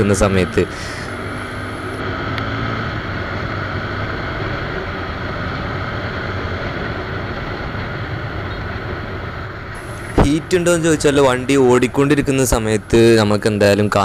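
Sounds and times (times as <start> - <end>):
motorcycle engine: 0.0 - 14.0
wind and road noise: 0.0 - 14.0.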